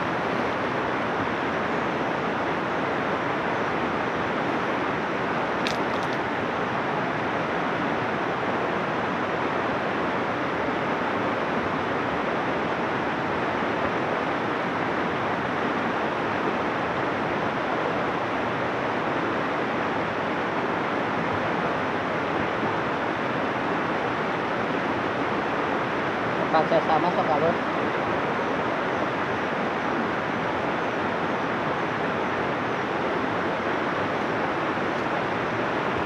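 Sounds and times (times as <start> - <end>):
river rushing over rocks: 0.0 - 36.0.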